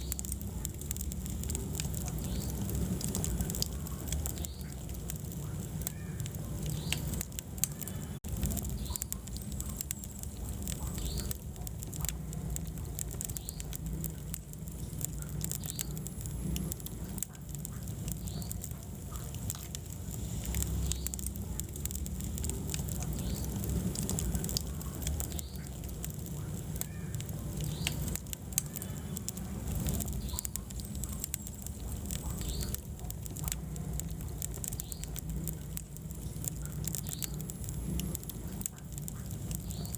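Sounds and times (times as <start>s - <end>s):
flames rumbling in fireplace: 0.0s - 39.9s
wood fire crackling and popping: 0.0s - 39.9s.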